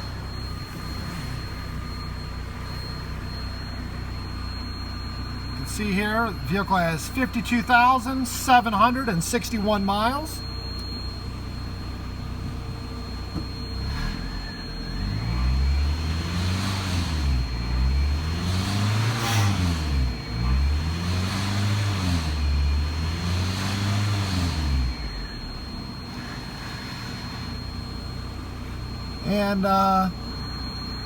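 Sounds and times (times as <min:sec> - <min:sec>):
car engine revving and idling: 0:00.0 - 0:31.0.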